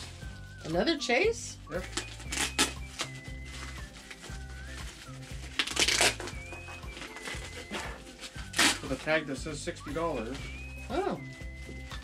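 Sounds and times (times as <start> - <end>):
thin high melody: 0.0 - 12.0.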